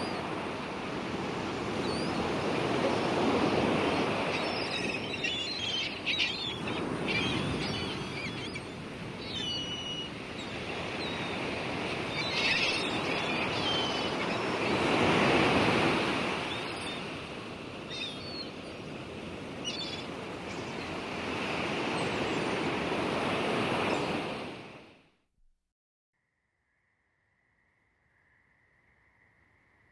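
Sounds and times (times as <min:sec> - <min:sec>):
sea waves washing in: 0:00.0 - 0:24.9.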